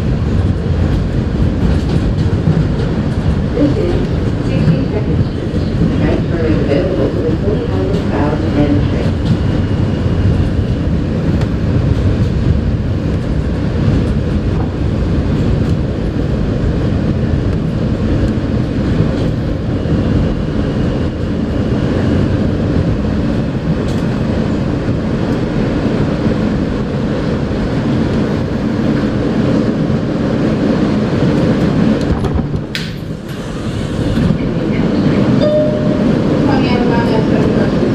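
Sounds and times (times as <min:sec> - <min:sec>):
subway car rumble and rail noise: 0:00.0 - 0:37.9.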